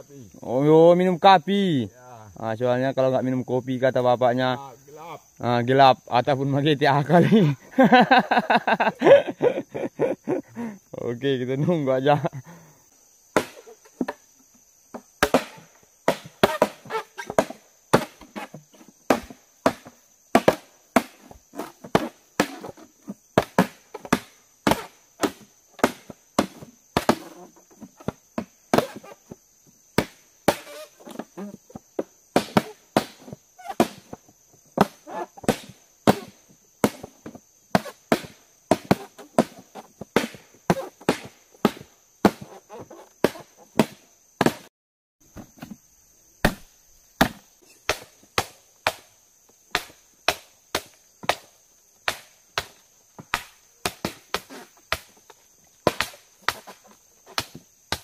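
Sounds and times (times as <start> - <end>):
forest insects chirring: 0.0 - 58.0.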